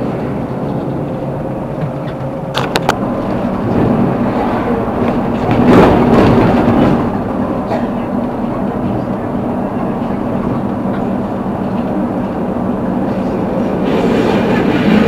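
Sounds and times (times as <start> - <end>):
moving vehicle hum: 0.0 - 15.0.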